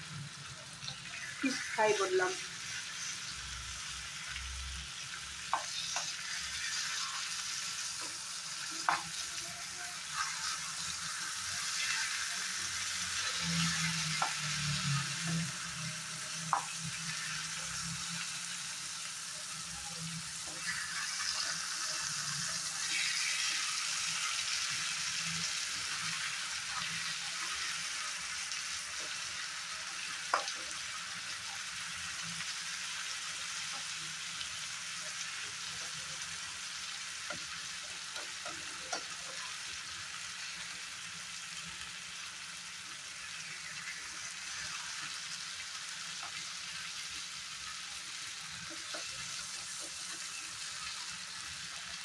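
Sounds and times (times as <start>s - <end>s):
fish sizzling in a frying pan: 0.0s - 52.0s.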